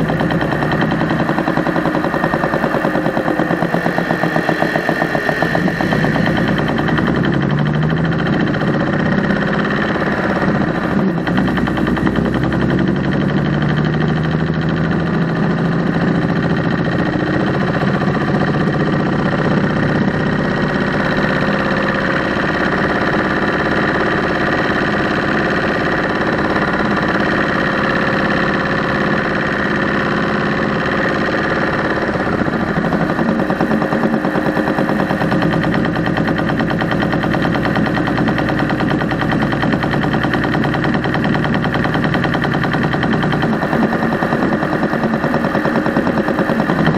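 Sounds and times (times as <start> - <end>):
engine running: 0.0 - 46.9
rapid mechanical ticking clatter: 0.0 - 46.9.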